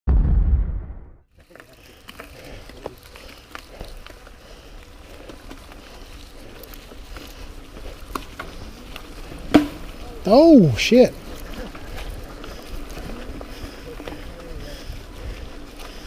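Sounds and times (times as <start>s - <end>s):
bike clicks and rattles: 1.3s - 16.0s
bike tyres crunching on dirt: 1.3s - 16.0s.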